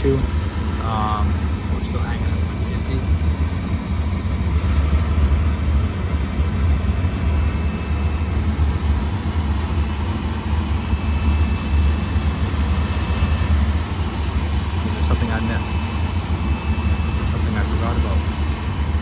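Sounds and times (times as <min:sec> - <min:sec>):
oil burner rumbling: 0:00.0 - 0:19.0.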